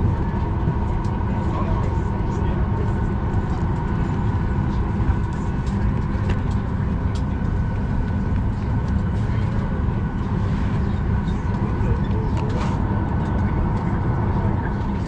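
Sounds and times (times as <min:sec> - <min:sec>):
air-conditioning drone: 0:00.0 - 0:15.0.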